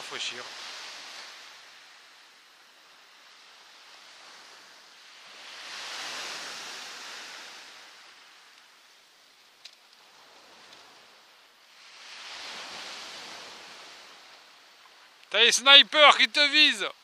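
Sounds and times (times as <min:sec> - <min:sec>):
rain hiss: 0:00.0 - 0:17.0
sea surf: 0:00.0 - 0:17.0.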